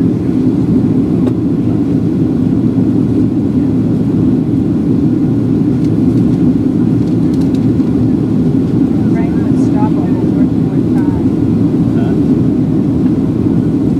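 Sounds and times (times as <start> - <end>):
airplane cabin engine roar: 0.0 - 13.9.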